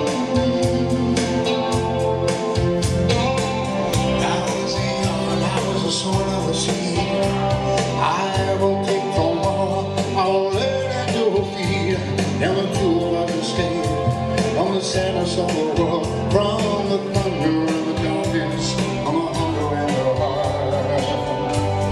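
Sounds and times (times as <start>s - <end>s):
man singing into a microphone: 0.0s - 2.6s, 3.8s - 21.9s
live country band playing: 0.0s - 21.9s.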